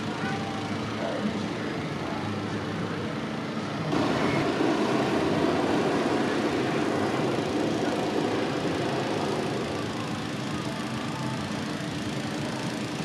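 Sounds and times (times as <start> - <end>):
engine-like drone: 0.0 - 13.0
propane burner roaring: 0.0 - 13.0.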